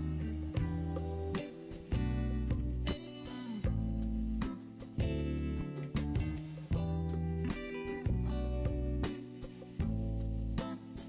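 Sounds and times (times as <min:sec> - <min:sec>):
plucked guitar-like chords: 0:00.0 - 0:11.0.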